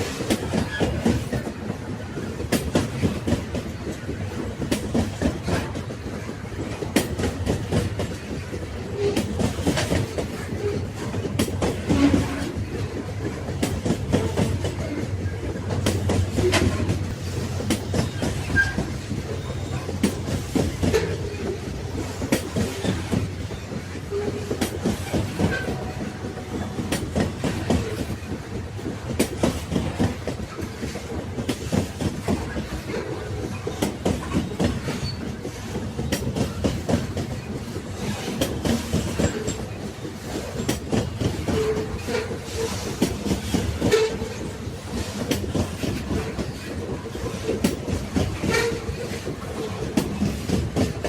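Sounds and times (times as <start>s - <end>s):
train wagons rumbling: 0.0s - 51.0s
wheels knocking on rails: 0.0s - 51.0s.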